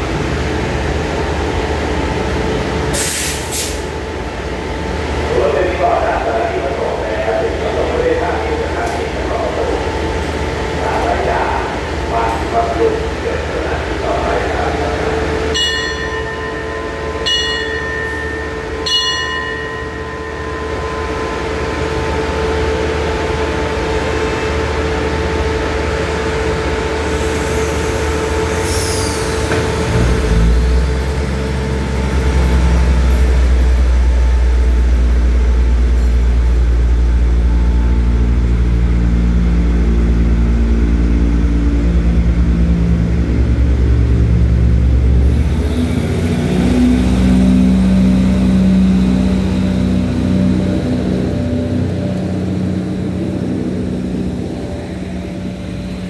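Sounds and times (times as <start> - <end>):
diesel train engine humming: 0.0 - 56.0
train cars rolling past: 0.0 - 56.0.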